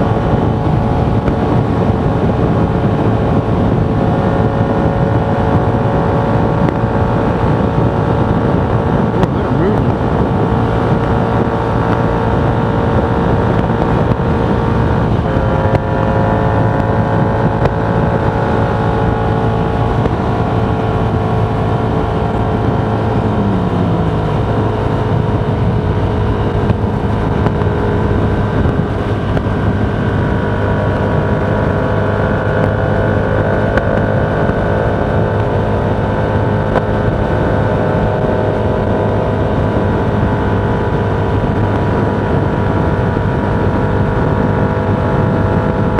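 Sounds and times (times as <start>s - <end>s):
road and wind noise: 0.0s - 45.9s
steady drifting tones: 0.0s - 45.9s.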